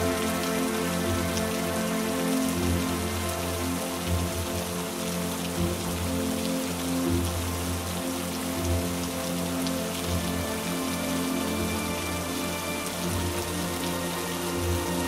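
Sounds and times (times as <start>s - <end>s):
heavy rain falling: 0.0s - 15.0s
soft music with low held notes: 0.0s - 15.0s.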